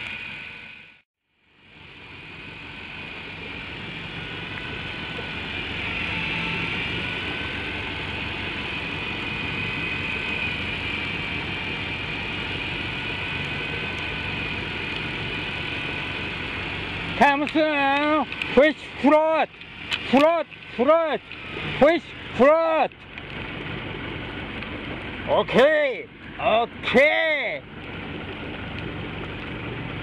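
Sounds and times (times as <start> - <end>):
fishing reel motor whining: 0.0 - 30.0
low hum: 0.0 - 30.0.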